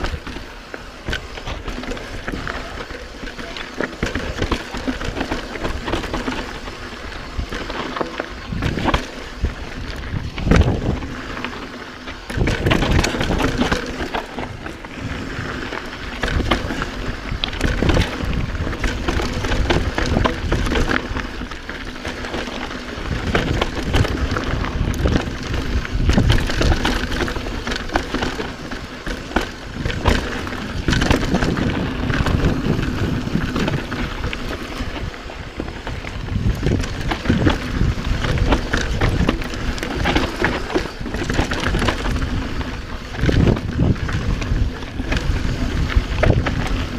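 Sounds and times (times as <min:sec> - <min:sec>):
bike rattling and knocking: 0:00.0 - 0:46.9
bike tyres rumbling over dirt: 0:00.0 - 0:46.9.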